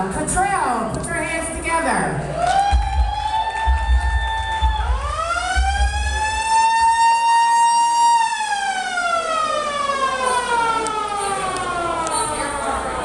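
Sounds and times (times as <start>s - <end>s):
wailing siren sound effect: 2.5s - 13.0s.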